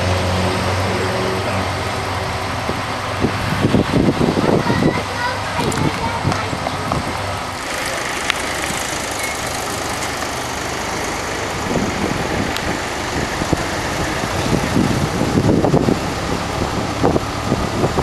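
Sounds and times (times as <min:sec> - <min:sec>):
crane engine running: 0:00.0 - 0:18.0.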